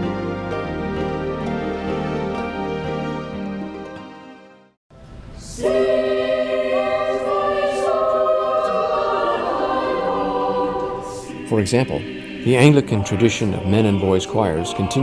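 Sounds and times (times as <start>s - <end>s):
church choir singing sustained notes: 0.0s - 4.4s, 5.4s - 15.0s
soft instrumental music: 0.0s - 15.0s.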